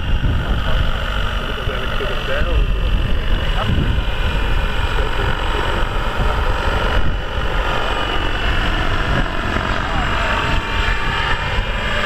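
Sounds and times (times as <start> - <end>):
model helicopter whine: 0.0 - 12.0.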